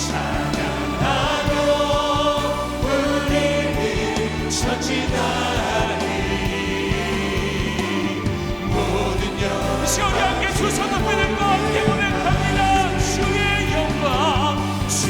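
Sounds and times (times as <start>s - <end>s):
bass and keyboards: 0.0s - 15.0s
choir singing: 0.0s - 15.0s
steady drum beat: 0.0s - 15.0s.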